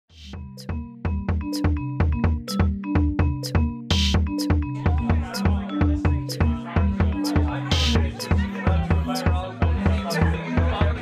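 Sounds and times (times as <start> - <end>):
soundtrack music with steady beat: 0.1 - 11.0.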